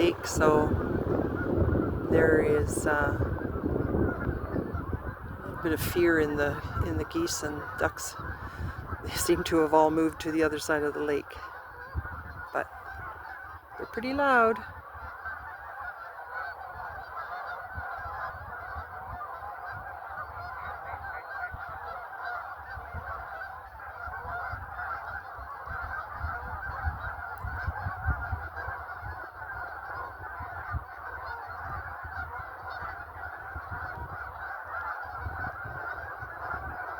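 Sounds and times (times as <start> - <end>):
geese honking: 0.0 - 36.9.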